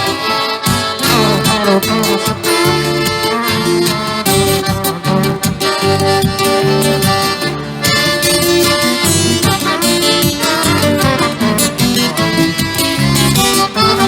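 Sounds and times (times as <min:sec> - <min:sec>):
acoustic band playing: 0:00.0 - 0:14.0.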